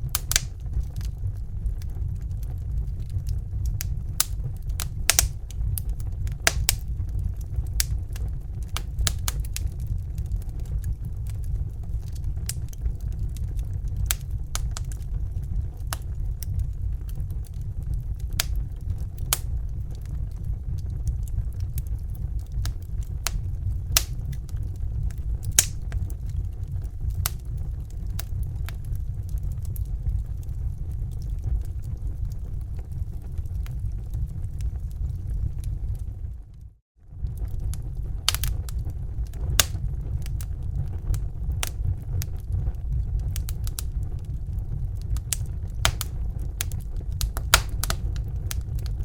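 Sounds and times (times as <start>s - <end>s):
fire popping and snapping: 0.0s - 49.0s
low rumble of fire: 0.0s - 49.0s.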